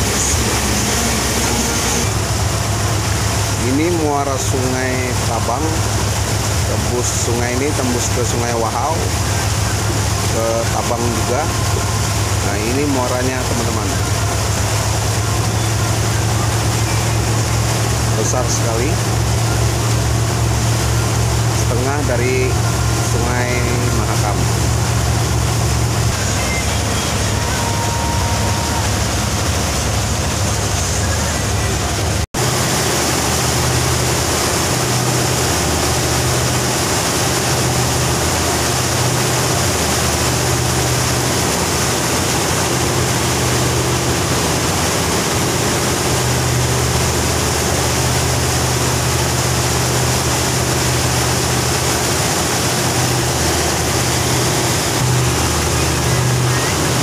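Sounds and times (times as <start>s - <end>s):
boat engine running: 0.0s - 57.0s
water rushing: 0.0s - 57.0s
wind: 0.0s - 57.0s.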